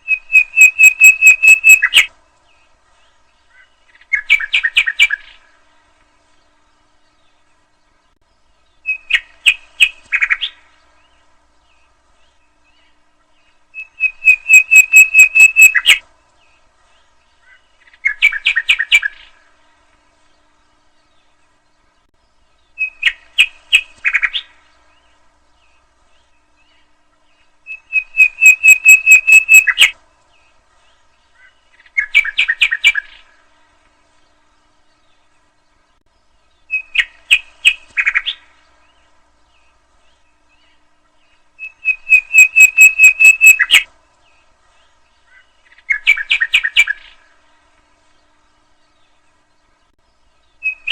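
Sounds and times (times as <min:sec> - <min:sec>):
nightingale singing: 0:00.0 - 0:50.9.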